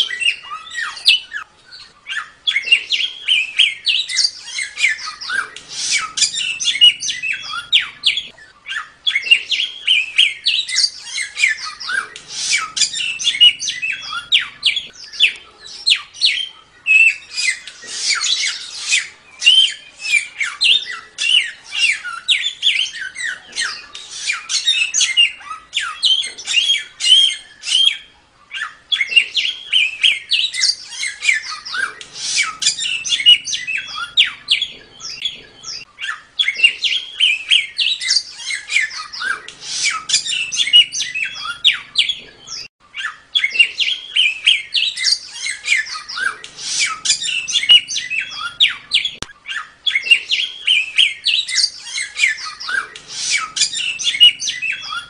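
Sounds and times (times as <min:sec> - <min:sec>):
songbird chattering song: 0:00.0 - 0:55.0.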